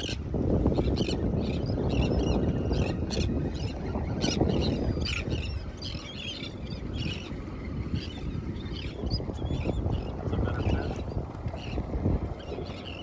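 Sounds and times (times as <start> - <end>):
wind and water rushing: 0.0 - 13.0
birds chirping: 0.8 - 13.0.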